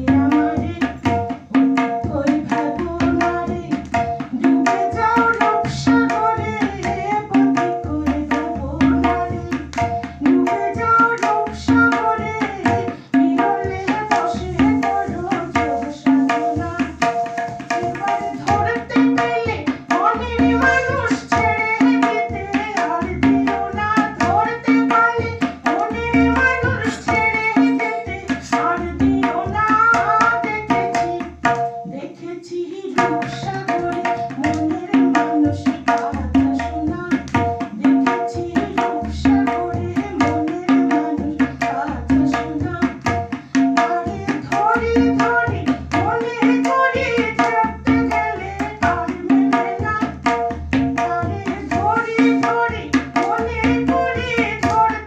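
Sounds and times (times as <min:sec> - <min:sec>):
tabla rhythm: 0:00.0 - 0:55.0
woman singing into a microphone: 0:00.0 - 0:55.0.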